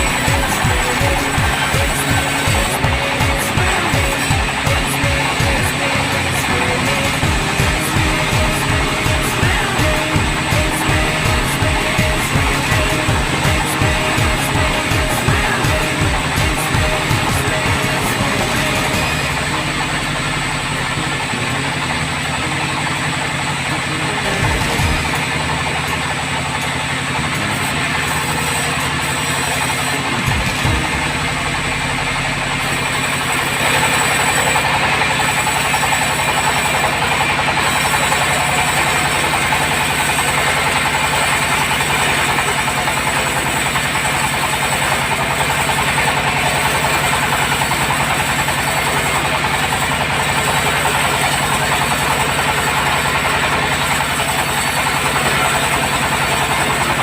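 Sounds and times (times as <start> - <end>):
bandsaw running: 0.0 - 57.0.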